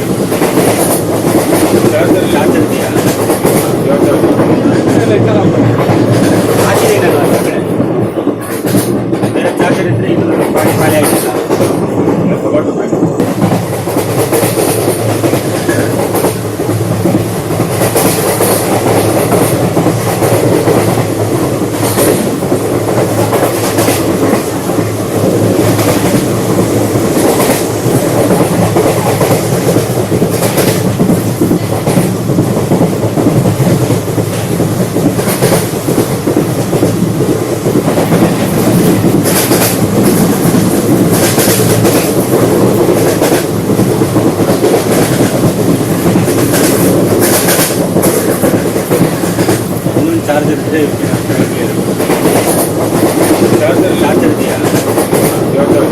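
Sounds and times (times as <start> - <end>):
clickety-clack of rail joints: 0.0 - 55.9
train wheels rumbling on track: 0.0 - 55.9.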